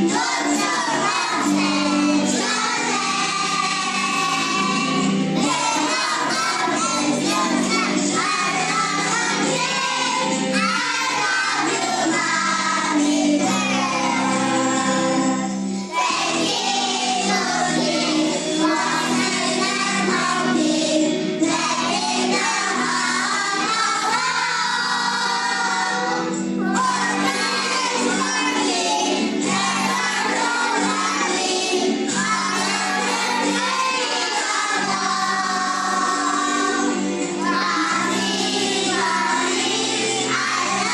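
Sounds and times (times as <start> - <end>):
instrumental accompaniment: 0.0 - 40.9
people and children singing: 0.0 - 40.9.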